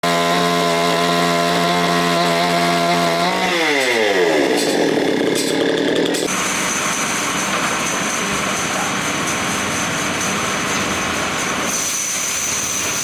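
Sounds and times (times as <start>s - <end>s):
sawmill saw running: 0.0s - 13.0s.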